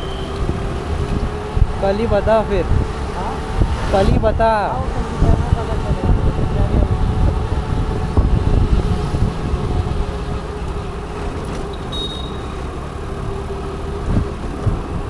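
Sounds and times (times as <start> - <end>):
motor scooter engine rumble: 0.0 - 15.0
road traffic: 0.0 - 15.0.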